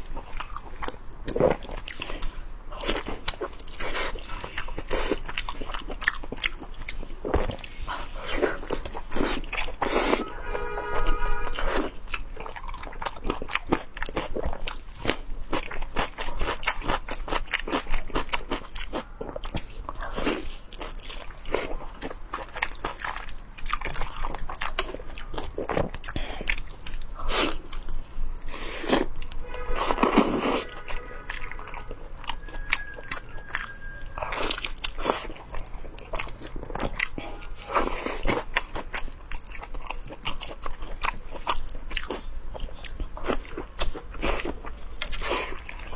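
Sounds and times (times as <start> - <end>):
person chewing crunchy food: 0.0 - 10.6, 11.4 - 45.9.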